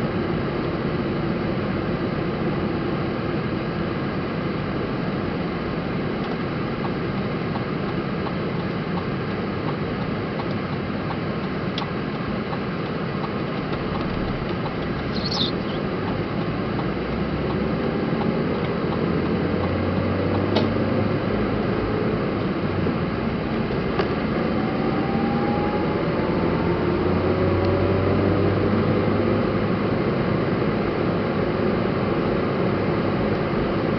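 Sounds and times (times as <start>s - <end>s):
road and engine noise in car cabin: 0.0s - 33.9s.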